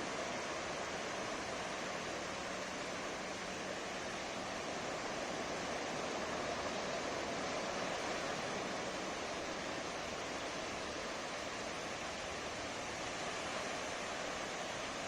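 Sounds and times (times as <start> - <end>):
waves breaking on beach: 0.0 - 15.0.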